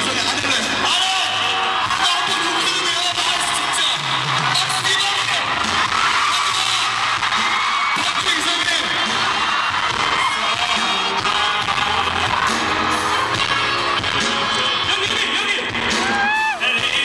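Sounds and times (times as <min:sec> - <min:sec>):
live pop music over pa: 0:00.0 - 0:17.0.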